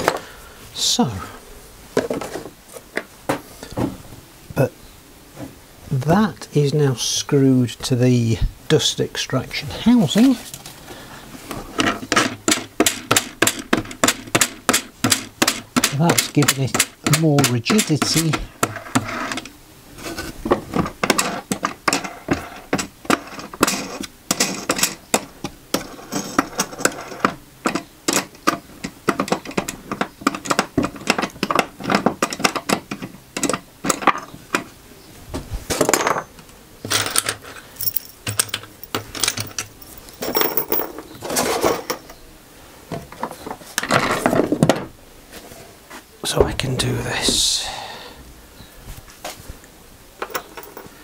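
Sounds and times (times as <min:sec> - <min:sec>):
longer noisy workshop sounds: 0:08.8 - 0:51.0.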